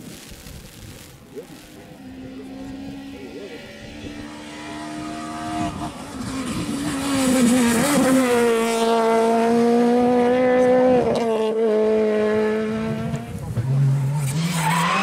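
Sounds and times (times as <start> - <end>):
rally car engine revving: 1.8 - 15.0.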